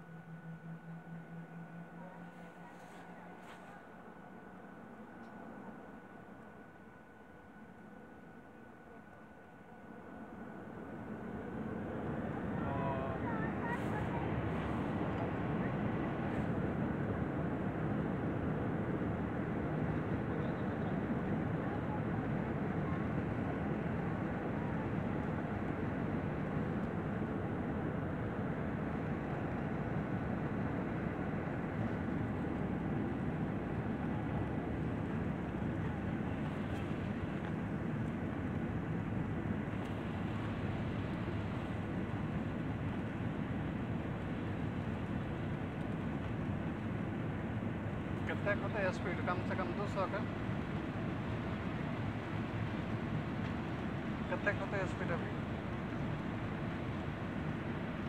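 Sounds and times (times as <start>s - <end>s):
jet engine cabin noise: 0.0s - 58.0s.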